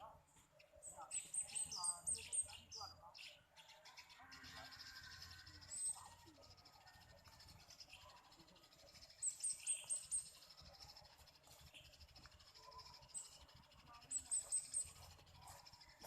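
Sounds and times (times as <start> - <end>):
faint steady twittering: 0.0 - 16.0
sparrows chirping: 0.0 - 16.0.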